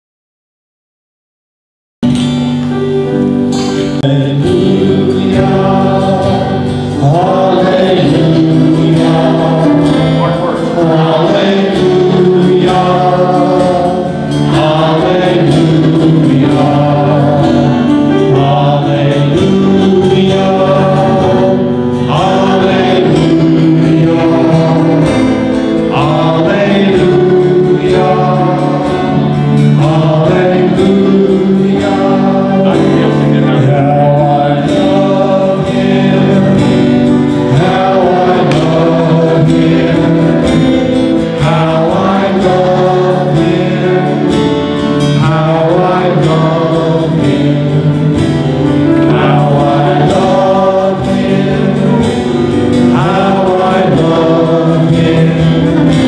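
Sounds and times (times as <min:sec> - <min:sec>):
guitar: 0:02.0 - 0:56.0
piano: 0:02.0 - 0:56.0
group singing a hymn: 0:02.2 - 0:56.0.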